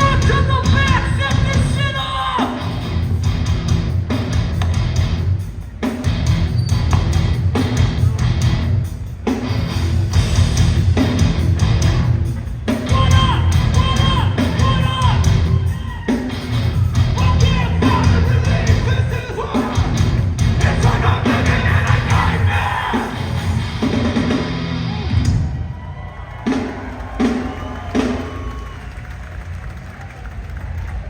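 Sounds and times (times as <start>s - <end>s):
live hardcore band playing: 0.0s - 25.8s, 26.4s - 28.7s.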